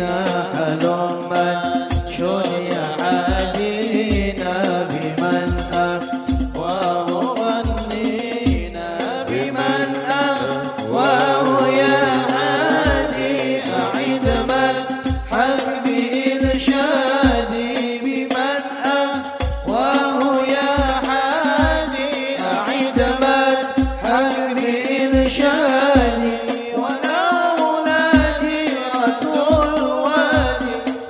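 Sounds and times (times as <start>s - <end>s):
men singing ornamented melody: 0.0s - 31.0s.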